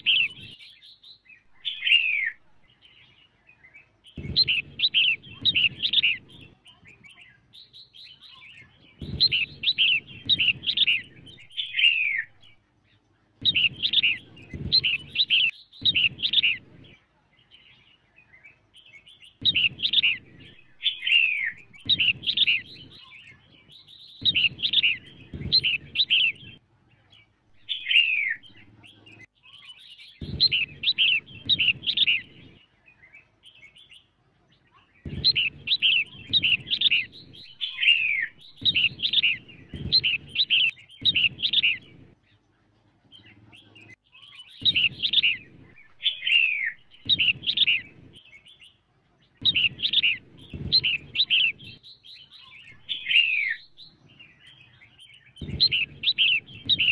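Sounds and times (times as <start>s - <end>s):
bulbul singing whistled notes: 0.0s - 12.6s, 13.4s - 17.0s, 18.3s - 26.6s, 27.6s - 33.9s, 35.0s - 42.2s, 43.2s - 56.9s.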